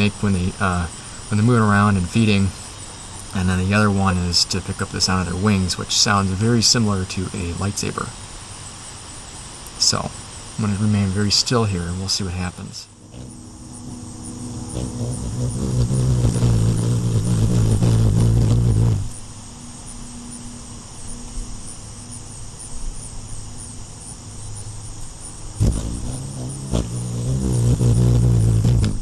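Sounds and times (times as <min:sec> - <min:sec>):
hummingbird wings humming: 0:00.0 - 0:09.0, 0:09.8 - 0:29.0.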